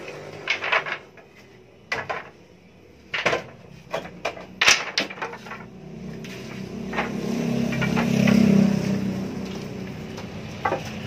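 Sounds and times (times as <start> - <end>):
wooden strips clacking together: 0.0 - 8.6, 9.4 - 11.0.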